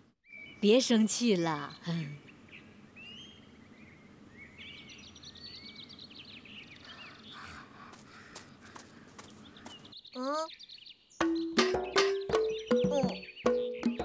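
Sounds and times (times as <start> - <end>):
outdoor background hiss: 0.0 - 13.2
birds chirping: 0.0 - 14.0.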